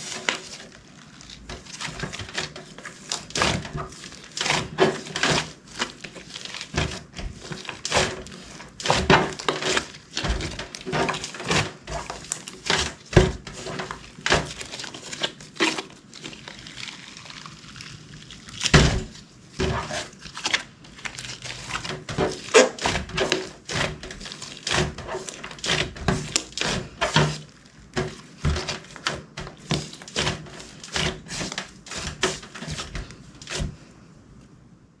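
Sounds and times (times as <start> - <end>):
slime squishing with sticky pops: 0.0 - 33.8.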